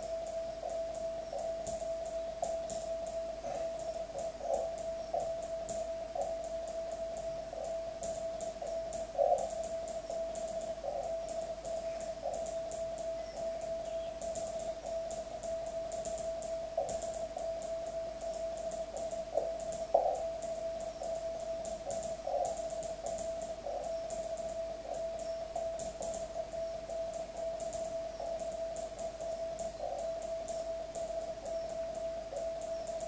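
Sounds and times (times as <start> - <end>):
faint high-pitched ticks: 0.0 - 33.0.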